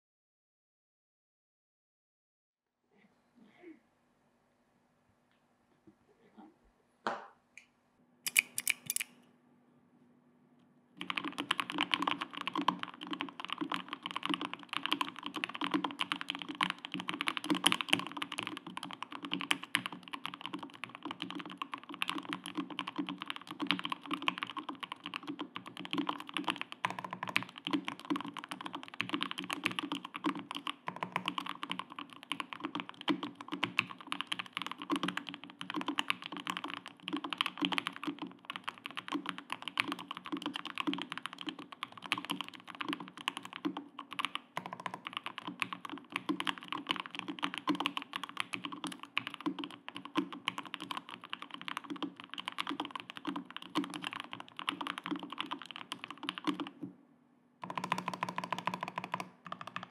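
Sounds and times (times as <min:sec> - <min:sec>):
fast typing on mechanical keyboard: 0:08.3 - 0:09.1, 0:11.0 - 0:56.8, 0:57.6 - 0:59.9.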